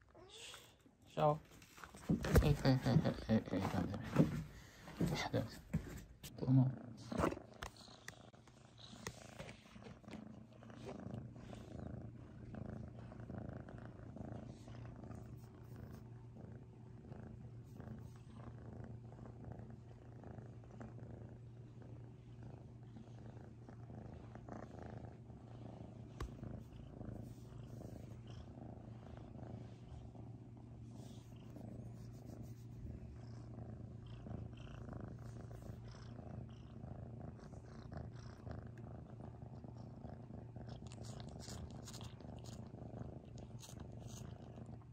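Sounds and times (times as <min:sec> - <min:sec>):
kitten purring: 0:02.1 - 0:44.9.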